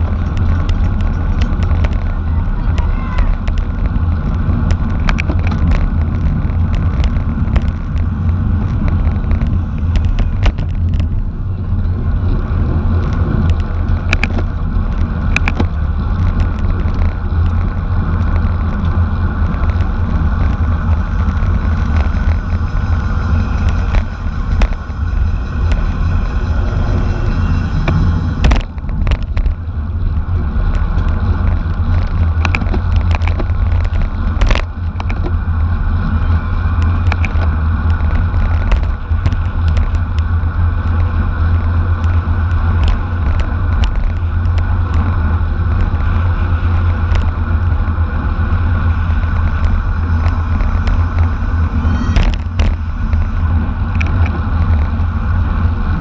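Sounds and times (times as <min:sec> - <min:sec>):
bicycle road rumble: 0:00.0 - 0:56.0
wind buffeting: 0:00.0 - 0:56.0.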